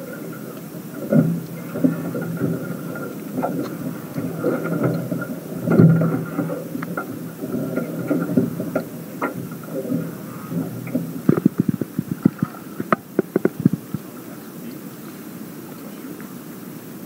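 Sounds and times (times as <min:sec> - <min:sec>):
knocks and water splashes: 0:00.0 - 0:14.4
wind rumbling on microphone: 0:00.0 - 0:14.5.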